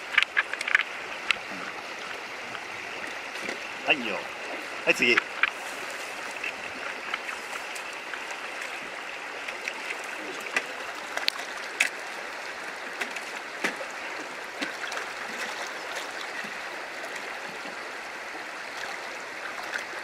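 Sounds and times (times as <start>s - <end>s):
river water flowing over rocks: 0.0s - 20.0s.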